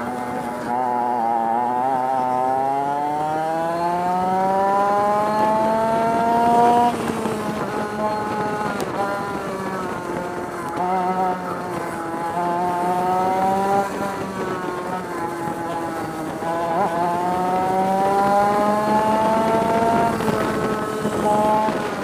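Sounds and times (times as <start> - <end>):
kart engine accelerating: 0.0 - 22.0.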